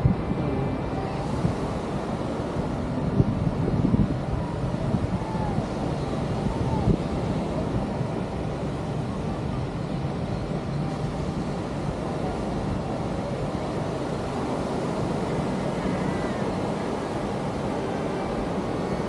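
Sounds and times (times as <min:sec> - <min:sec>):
beach surf rushing: 0:00.0 - 0:19.0
wind on microphone: 0:00.0 - 0:19.0.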